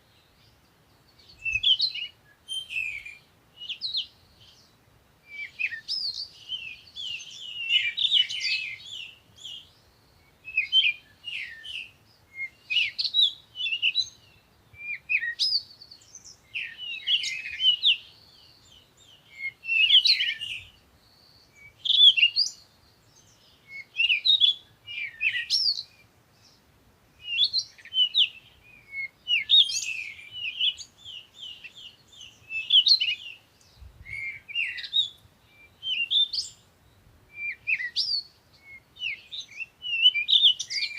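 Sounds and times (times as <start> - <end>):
songbirds chirping and warbling: 0.0 - 40.9.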